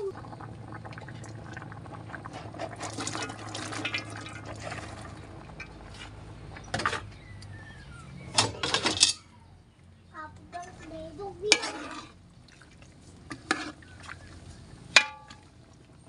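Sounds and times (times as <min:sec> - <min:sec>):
broth bubbling in a wok: 0:00.0 - 0:08.8, 0:10.6 - 0:16.0.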